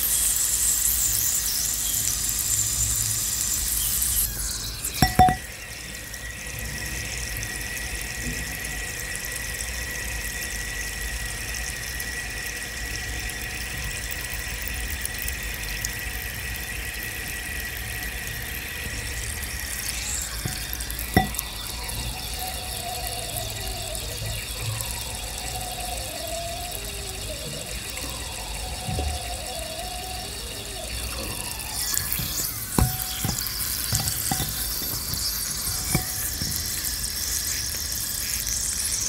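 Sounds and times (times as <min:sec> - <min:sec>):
block fizzing and crackling in water: 0:00.0 - 0:39.0
thin steady whistle: 0:00.0 - 0:39.0.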